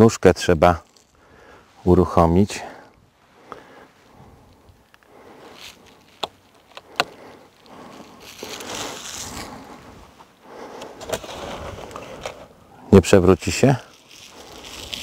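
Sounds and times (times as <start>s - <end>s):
rustling crinkling noise: 0.3s - 15.0s.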